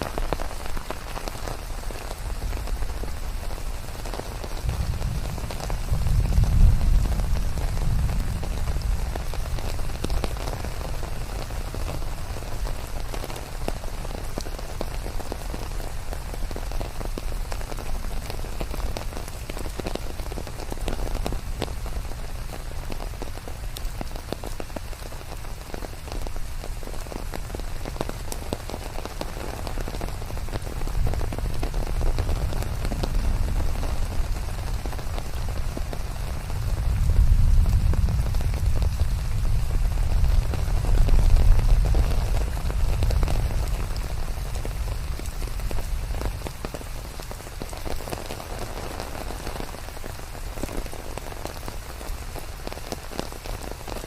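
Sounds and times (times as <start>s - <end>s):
rain drops striking a surface: 0.0s - 54.0s.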